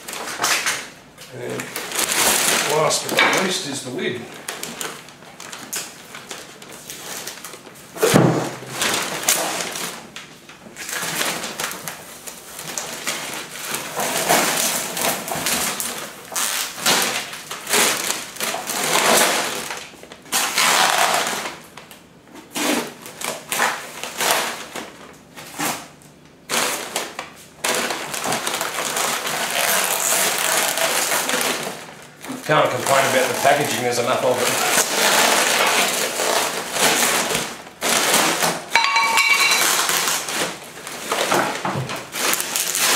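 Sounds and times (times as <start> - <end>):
packaging rustling: 0.0 - 42.9.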